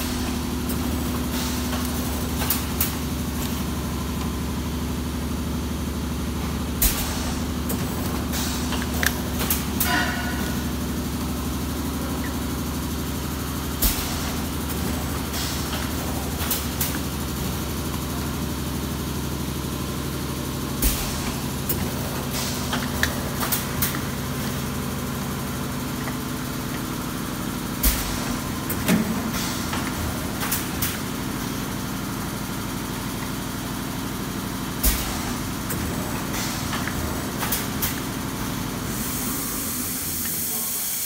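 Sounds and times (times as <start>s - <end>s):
machine mechanical hum: 0.0s - 41.0s
pneumatic clacks: 0.0s - 41.0s.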